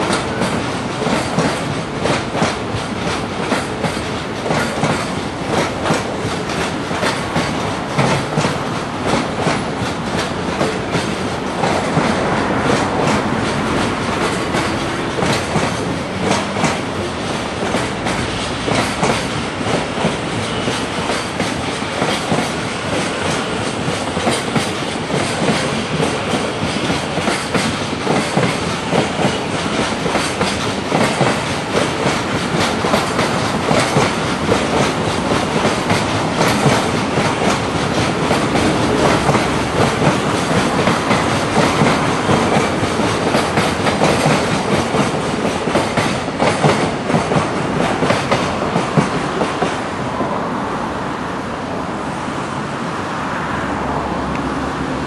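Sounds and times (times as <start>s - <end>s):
train wheels clickety-clack: 0.0s - 50.5s
train rumble: 0.0s - 55.0s.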